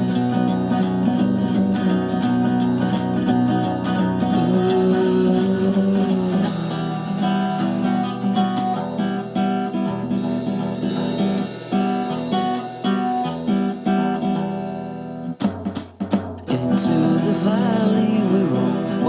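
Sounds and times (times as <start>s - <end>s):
acoustic guitar picking and strumming: 0.0s - 19.0s.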